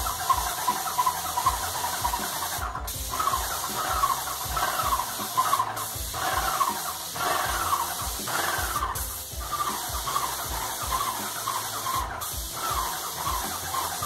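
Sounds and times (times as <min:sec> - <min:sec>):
hiss of paint spraying: 0:00.0 - 0:14.0
paint sprayer pump whining: 0:00.0 - 0:14.0.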